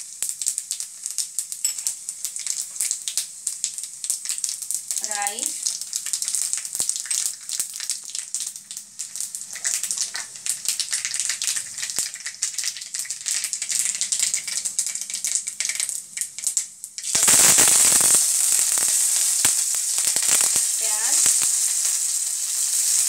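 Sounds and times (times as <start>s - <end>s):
oil sizzling: 0.0s - 23.0s
seeds popping in hot oil: 0.0s - 23.0s.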